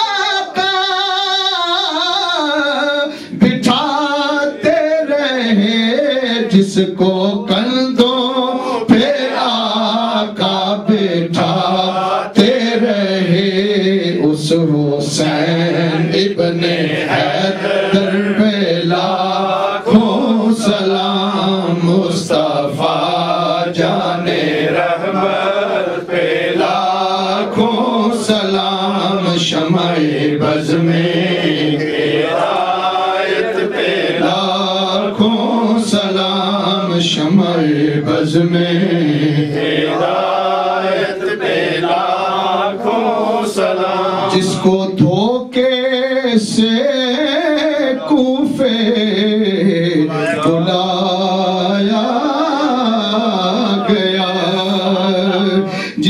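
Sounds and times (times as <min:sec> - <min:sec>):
man chanting: 0:00.0 - 0:32.4, 0:33.6 - 0:40.0, 0:41.4 - 0:56.0.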